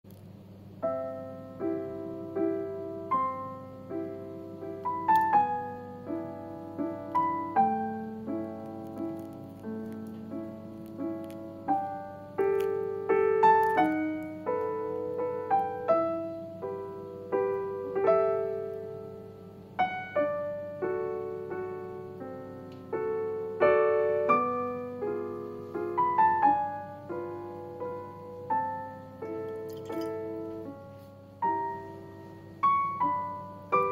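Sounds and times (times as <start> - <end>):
piano music: 0.8 - 33.9.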